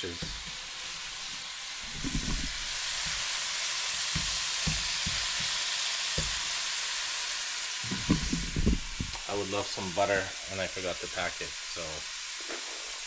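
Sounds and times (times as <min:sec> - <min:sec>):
sausages sizzling in a pan: 0:00.0 - 0:13.0.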